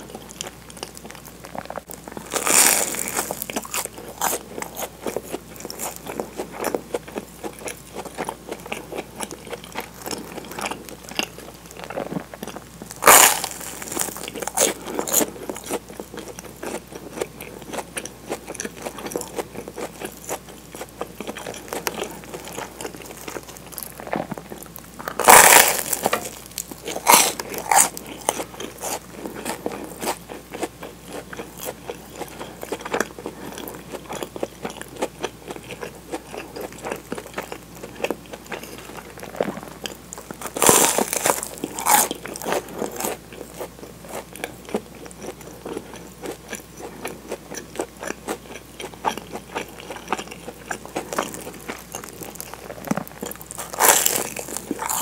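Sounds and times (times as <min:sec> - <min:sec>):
chewing crunchy toast: 0:00.0 - 0:55.0.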